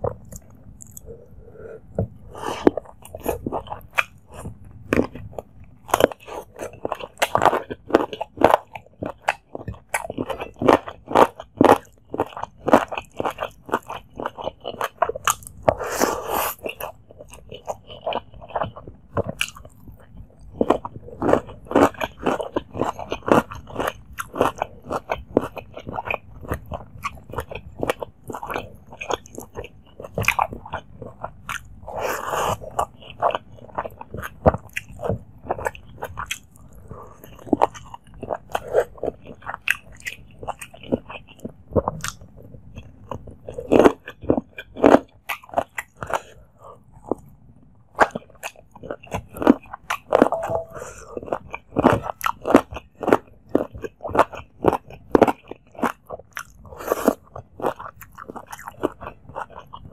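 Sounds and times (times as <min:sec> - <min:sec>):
wet chewing and mouth smacking: 0:00.0 - 0:59.9.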